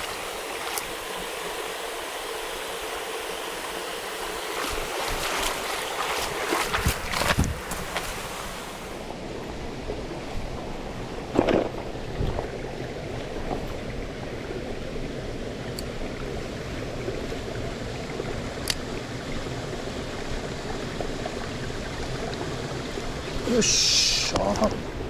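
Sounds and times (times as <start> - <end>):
stream water running: 0.0 - 25.0.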